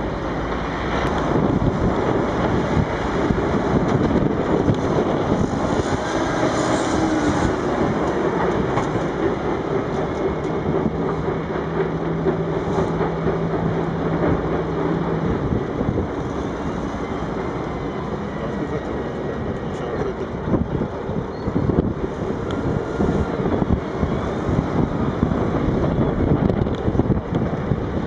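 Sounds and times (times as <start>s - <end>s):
excavator engine: 0.0s - 28.0s.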